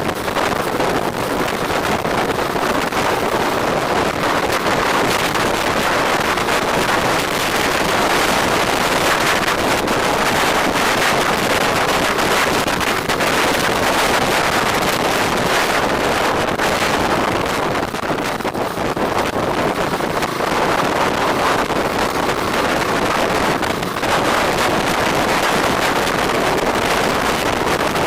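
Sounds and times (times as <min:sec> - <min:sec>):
road and vehicle noise: 0:00.0 - 0:28.0
wind buffeting microphone: 0:00.0 - 0:28.0.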